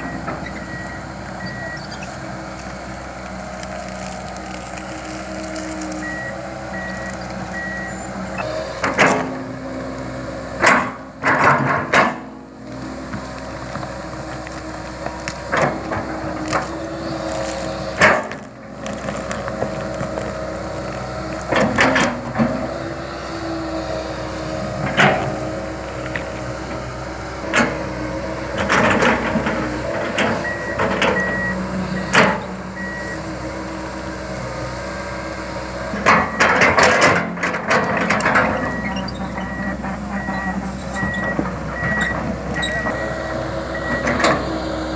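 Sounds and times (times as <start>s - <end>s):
excavator running: 0.0s - 44.9s.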